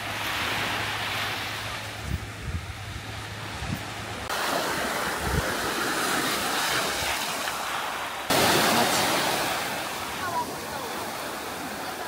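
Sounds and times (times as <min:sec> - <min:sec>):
waves washing onto sand: 0:00.0 - 0:12.0.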